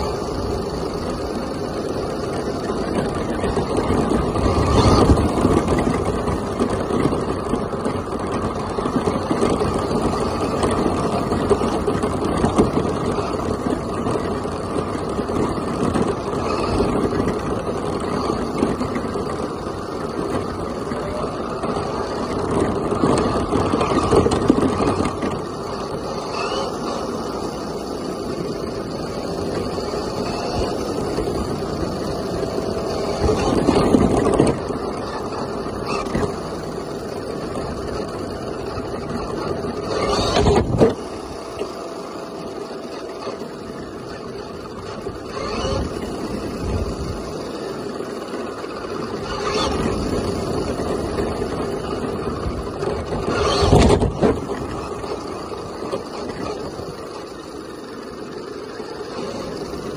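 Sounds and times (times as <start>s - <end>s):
toy truck motor and tires rumbling: 0.0s - 59.9s.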